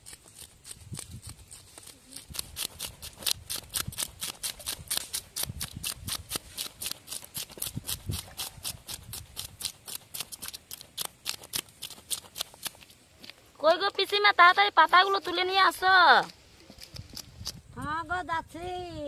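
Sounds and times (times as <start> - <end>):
blade scraping fish scales: 0.0 - 17.7.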